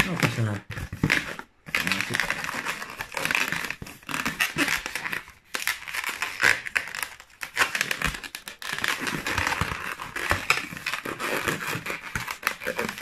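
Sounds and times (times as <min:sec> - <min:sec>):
balloons squeaking and crackling: 0:00.0 - 0:13.0.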